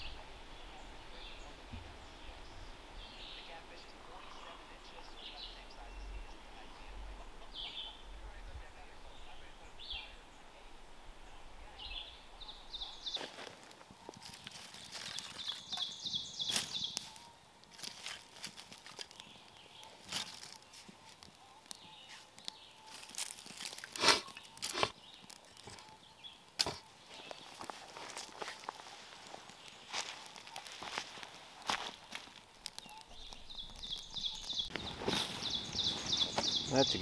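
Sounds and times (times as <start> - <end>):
bird chirping: 0.0 - 37.0
dry leaves and sticks crackling: 0.0 - 37.0.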